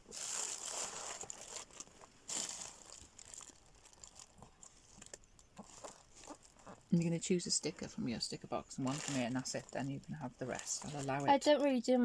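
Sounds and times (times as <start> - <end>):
packaging rustling and crinkling: 0.0 - 6.9, 8.7 - 11.4.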